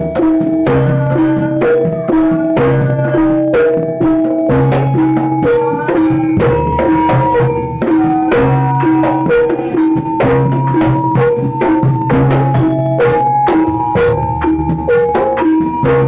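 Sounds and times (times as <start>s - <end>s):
hand drums fast rhythm: 0.0s - 16.0s
struck pitched instruments melody: 0.0s - 16.0s.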